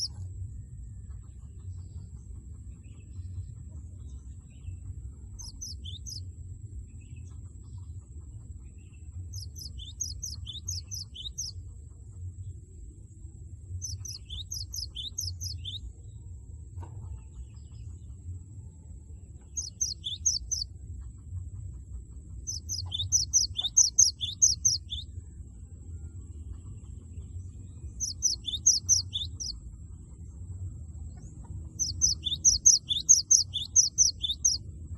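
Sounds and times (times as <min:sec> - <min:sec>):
low rumble: 0:00.0 - 0:34.9.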